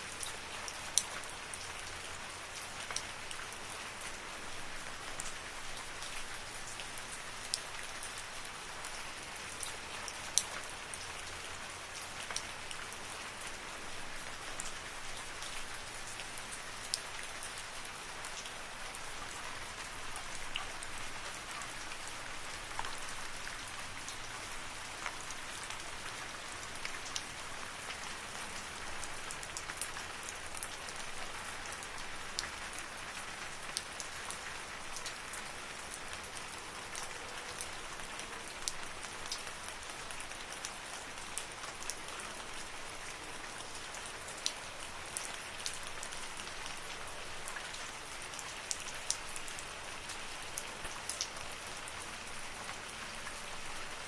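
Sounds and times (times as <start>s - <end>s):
raindrops ticking on surfaces: 0.0s - 54.0s
steady rain hiss: 0.0s - 54.0s.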